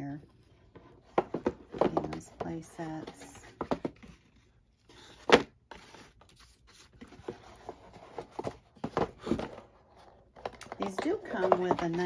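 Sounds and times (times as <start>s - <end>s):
cardboard taps and scrapes: 0.7s - 12.0s.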